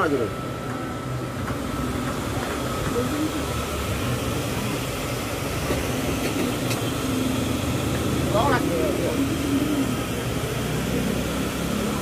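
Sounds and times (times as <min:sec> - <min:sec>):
market hubbub: 0:00.0 - 0:12.0
street traffic rumble: 0:00.0 - 0:12.0.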